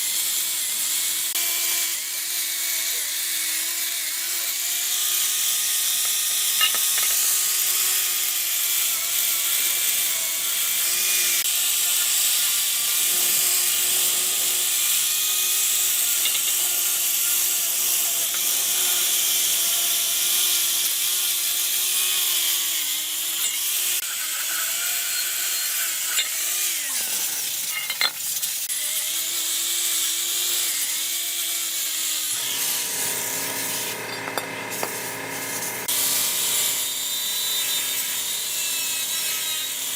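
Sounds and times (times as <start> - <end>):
electric power tool whining: 0.0 - 39.9.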